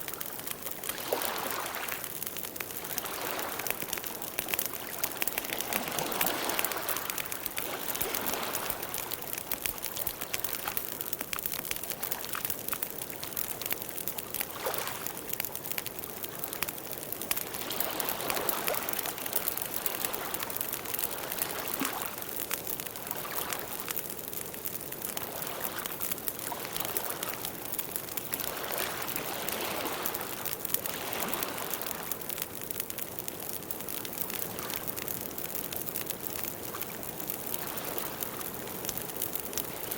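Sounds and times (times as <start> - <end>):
fire crackles and pops: 0.0 - 39.9.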